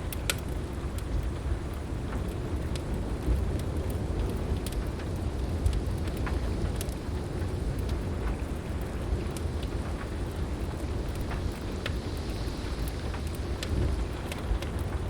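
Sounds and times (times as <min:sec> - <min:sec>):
heavy rain: 0:00.0 - 0:15.0
low rumble of thunder: 0:00.0 - 0:15.0
wood fire crackling: 0:00.0 - 0:15.0.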